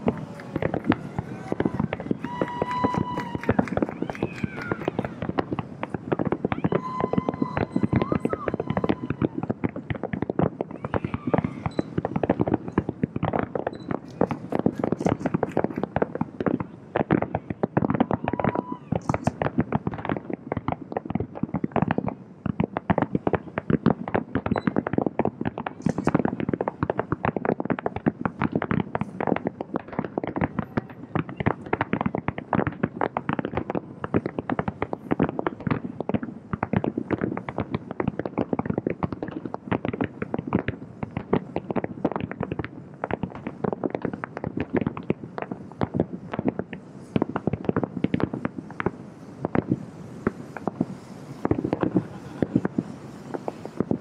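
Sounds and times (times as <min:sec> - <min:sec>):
distant fireworks booms and cracks: 0:00.0 - 0:54.0.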